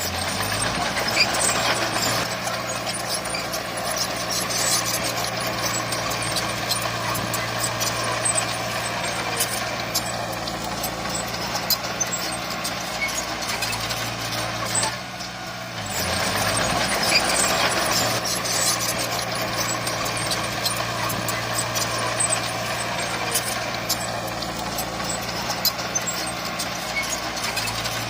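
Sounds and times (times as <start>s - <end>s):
heavy diesel machinery running: 0.0s - 28.0s
rattling and clanking: 0.0s - 28.0s.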